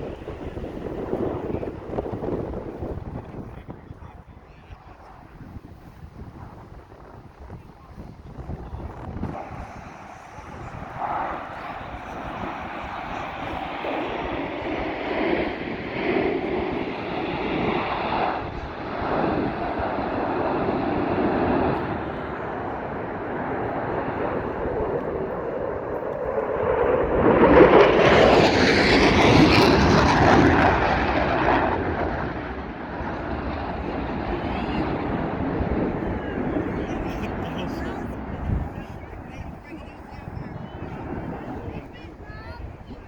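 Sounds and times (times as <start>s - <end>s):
airplane engine in flight: 0.0s - 43.0s.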